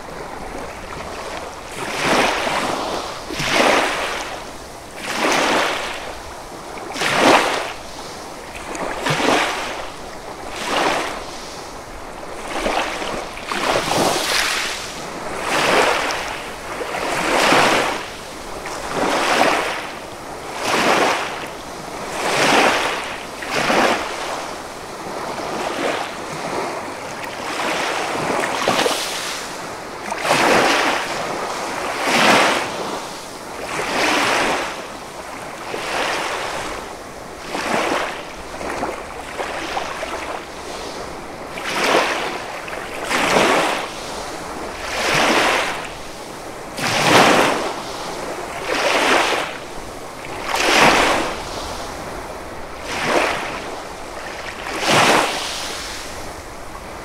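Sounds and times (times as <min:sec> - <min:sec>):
waves washing on sandy beach: 0:00.0 - 0:57.0.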